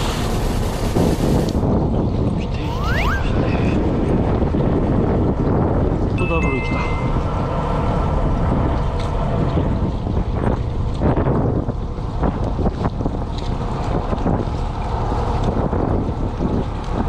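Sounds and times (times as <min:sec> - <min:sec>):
boat engine rumble: 0:00.0 - 0:17.0
wind buffeting microphone: 0:00.0 - 0:17.0.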